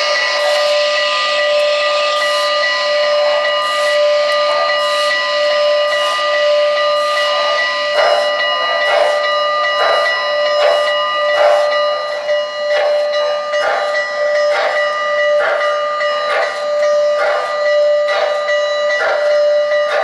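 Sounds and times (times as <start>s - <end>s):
chime steam whistle: 0.0s - 20.0s
rhythmic steam chuff: 0.0s - 20.0s.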